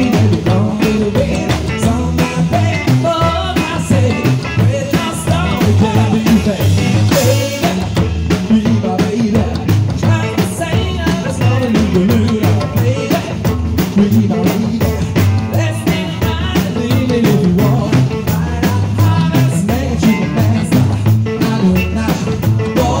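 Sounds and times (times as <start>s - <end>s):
drum kit beat: 0.0s - 23.0s
person singing: 0.0s - 23.0s
upright bass walking line: 0.0s - 23.0s.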